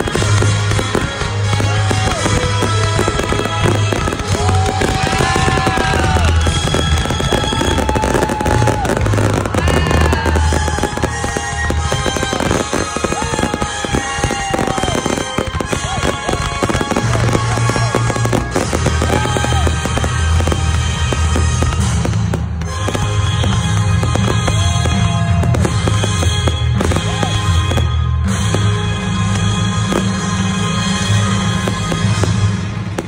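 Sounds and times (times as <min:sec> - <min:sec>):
fireworks cracking and popping: 0:00.0 - 0:33.0
music with pulsing bass: 0:00.0 - 0:33.0.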